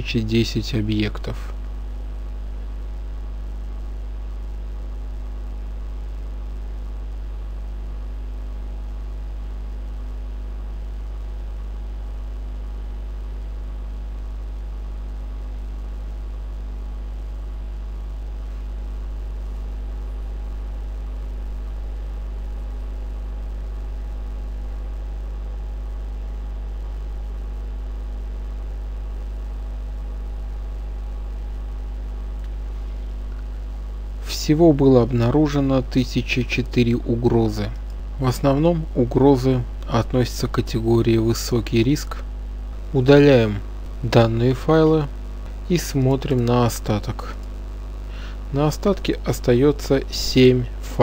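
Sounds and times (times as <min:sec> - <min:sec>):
faint hiss: 0:00.0 - 0:51.0
low electrical hum: 0:00.0 - 0:51.0.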